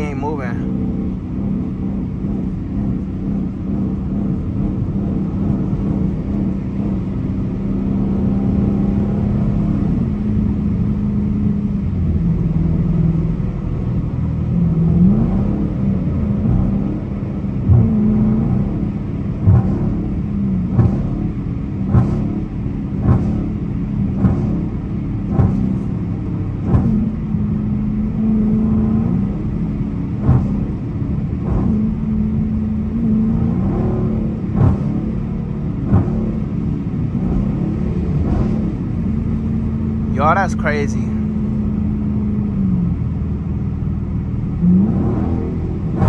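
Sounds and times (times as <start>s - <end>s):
car engine drone: 0.0s - 46.0s
road and tyre noise: 0.0s - 46.0s.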